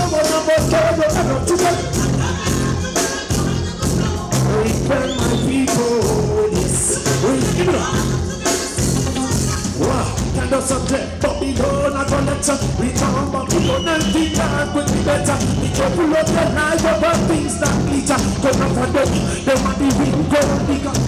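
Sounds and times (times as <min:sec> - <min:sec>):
pulsing bass line: 0:00.0 - 0:21.0
reggae band playing: 0:00.0 - 0:21.0.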